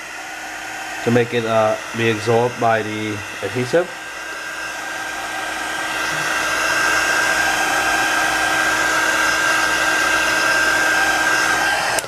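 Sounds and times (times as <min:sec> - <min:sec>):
hot-air blower running: 0:00.0 - 0:12.0.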